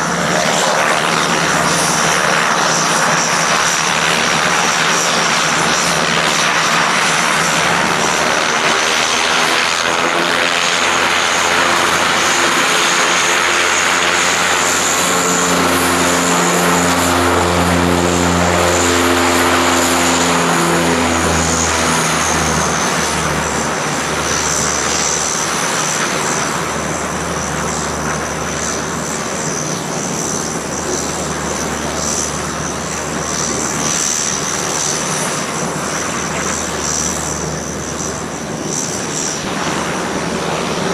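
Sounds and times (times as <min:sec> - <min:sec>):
low propeller drone: 0:00.0 - 0:40.9
turbine whine: 0:00.0 - 0:40.9.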